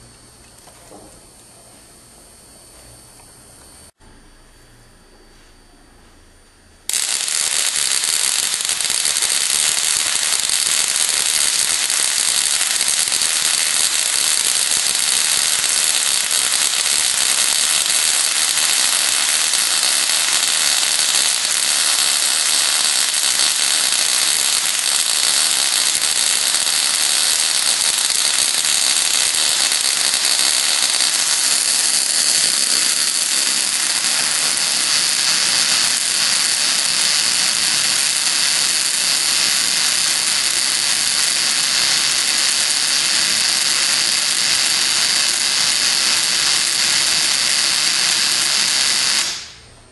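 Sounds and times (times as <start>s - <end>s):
interrupter sparking: 6.7s - 49.9s
crackle of electric sparks: 6.8s - 49.9s.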